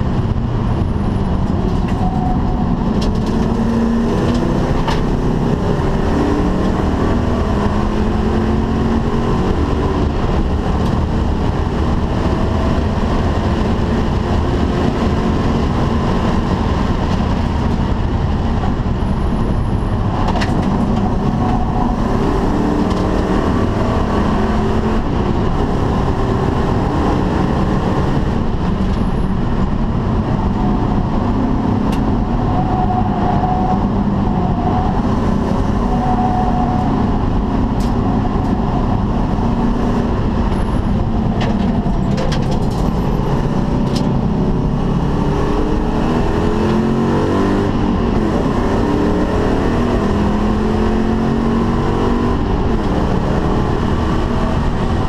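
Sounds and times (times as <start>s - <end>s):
car engine running hard: 0.0s - 55.0s
wind noise: 0.0s - 55.0s.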